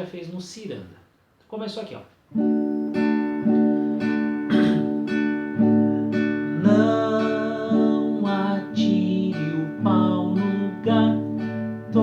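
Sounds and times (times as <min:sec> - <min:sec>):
acoustic guitar strumming: 0:02.3 - 0:12.0.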